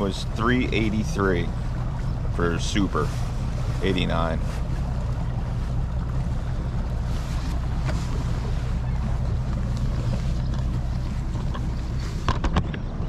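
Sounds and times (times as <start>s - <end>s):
outboard motor humming: 0.0s - 13.0s.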